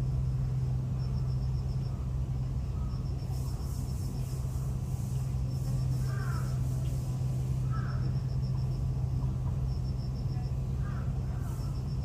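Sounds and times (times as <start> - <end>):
insect chirping: 0.0 - 12.0
steady low hum: 0.0 - 12.0
bird calls: 1.0 - 8.9, 10.3 - 12.0.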